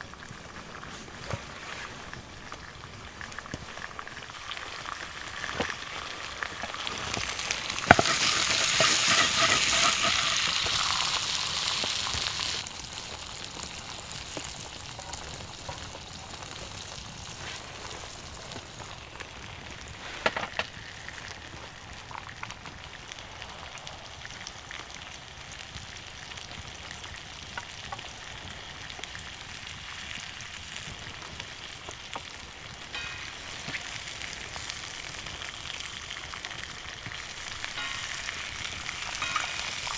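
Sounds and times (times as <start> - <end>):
steak sizzling: 0.0 - 21.4, 25.8 - 39.9.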